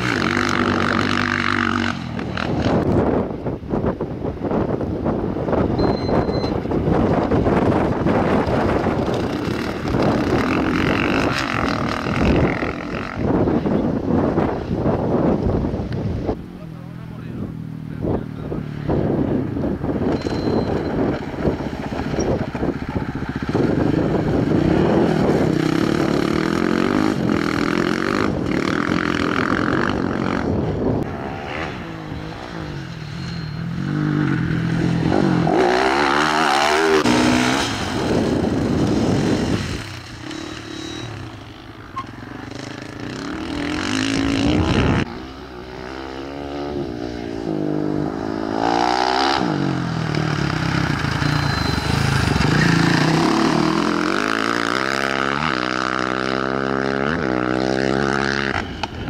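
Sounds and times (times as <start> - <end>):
motorcycle and quad engines revving: 0.0 - 59.0.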